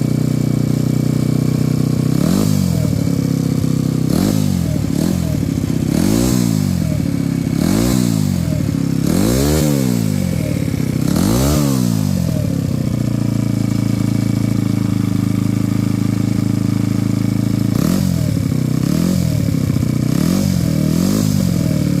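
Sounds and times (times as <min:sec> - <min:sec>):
scooter engine revving and idling: 0:00.0 - 0:22.0.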